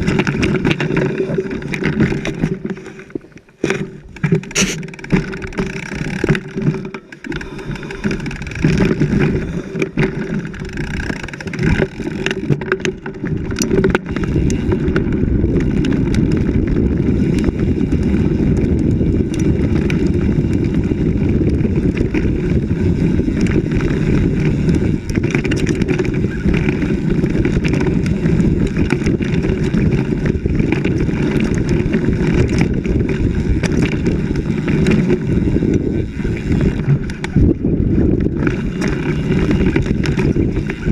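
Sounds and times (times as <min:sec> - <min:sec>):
wind buffeting and rumble: 0:00.0 - 0:40.9
bike knocks and jolts: 0:03.6 - 0:40.9.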